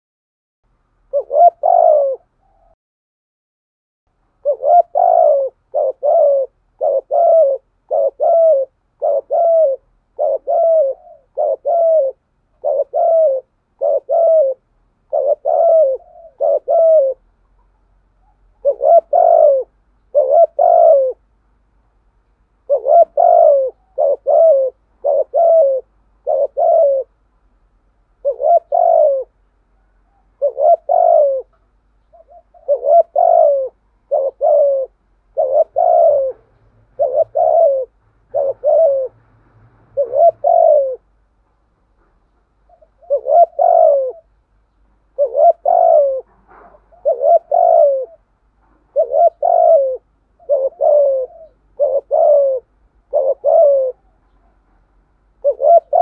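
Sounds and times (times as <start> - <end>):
dove cooing: 1.1 - 2.8, 4.4 - 21.3, 22.6 - 27.2, 28.2 - 41.2, 42.6 - 44.4, 45.0 - 54.8, 55.4 - 56.0.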